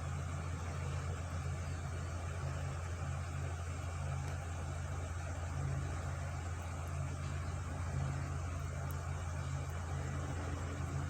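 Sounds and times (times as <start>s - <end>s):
low machine drone with hiss: 0.0s - 11.0s.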